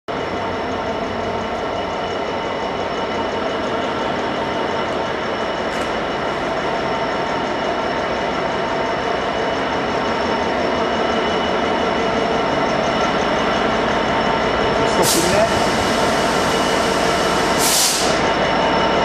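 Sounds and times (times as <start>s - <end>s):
diesel locomotive engine: 0.1s - 19.0s.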